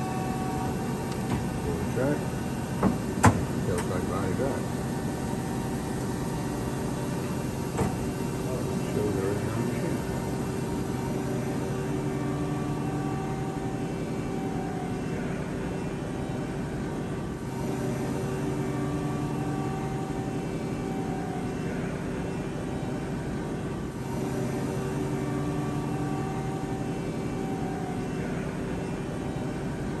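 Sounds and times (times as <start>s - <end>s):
lathe mechanical hum and whine: 0.0s - 30.0s.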